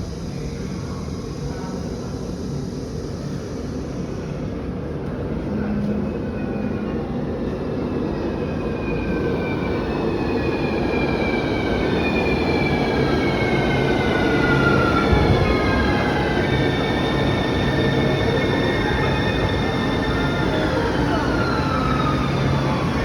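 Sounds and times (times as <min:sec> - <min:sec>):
metro train rumble: 0:00.0 - 0:23.0
train whining tones: 0:00.0 - 0:23.0.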